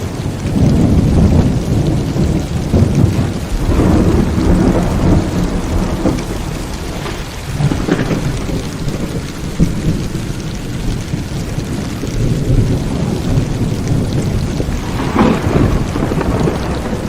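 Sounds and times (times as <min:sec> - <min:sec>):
heavy rain: 0:00.0 - 0:17.0
rolling thunder: 0:00.0 - 0:17.0.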